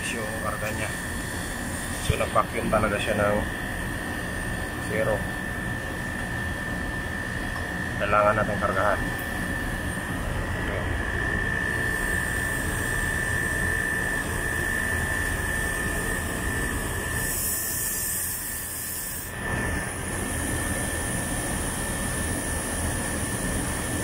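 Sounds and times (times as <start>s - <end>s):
air conditioner unit whine and hum: 0.0s - 24.0s.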